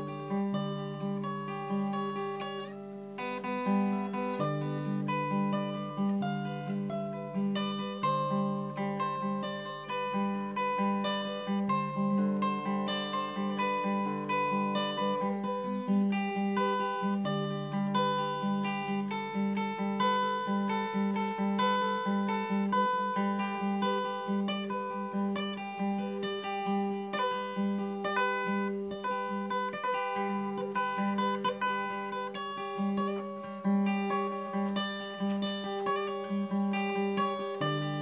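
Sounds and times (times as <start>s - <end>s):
acoustic guitar fingerpicking: 0.0s - 38.0s.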